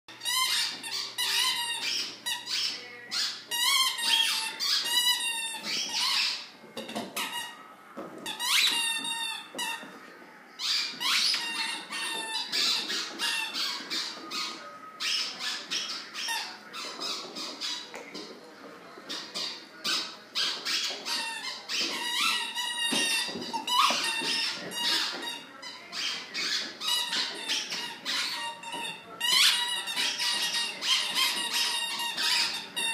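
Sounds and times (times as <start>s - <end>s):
squeaky toy squeaking: 0.1s - 7.6s, 8.2s - 9.9s, 10.6s - 18.2s, 19.1s - 32.9s.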